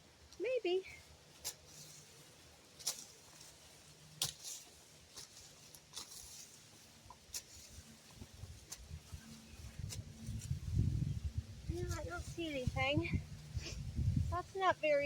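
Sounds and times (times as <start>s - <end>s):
digging in garden soil: 0.0s - 15.0s.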